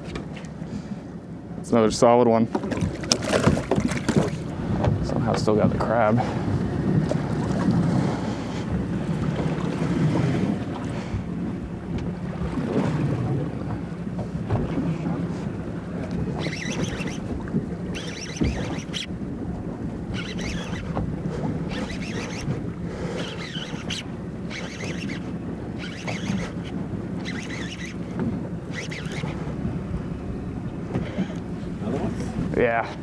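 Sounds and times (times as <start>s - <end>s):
water sloshing against boat hull: 0.0s - 33.0s
wind buffeting microphone: 1.9s - 33.0s.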